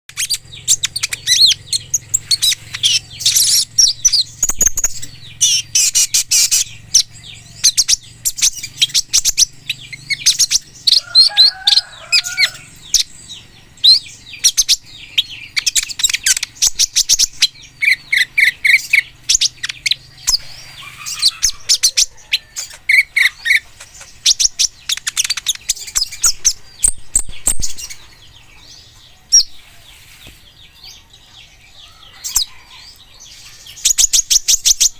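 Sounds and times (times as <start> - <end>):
bird chirping and twittering: 0.1 - 34.9
buzzy bird trills: 0.1 - 34.9.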